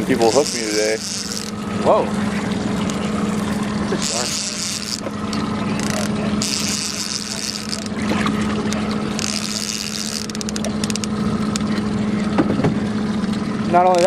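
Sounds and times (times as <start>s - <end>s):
boat engine idling: 0.0s - 14.0s
water splashing and trickling: 0.0s - 14.0s.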